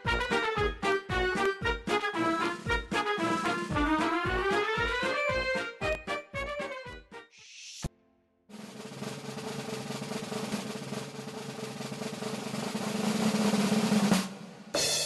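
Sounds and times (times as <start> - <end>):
drum roll: 0.0 - 6.0, 8.5 - 15.0.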